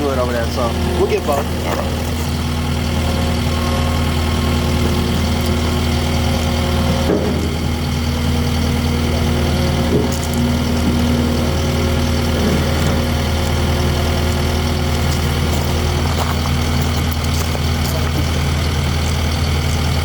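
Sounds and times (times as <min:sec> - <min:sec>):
skid steer engine idling: 0:00.0 - 0:20.0.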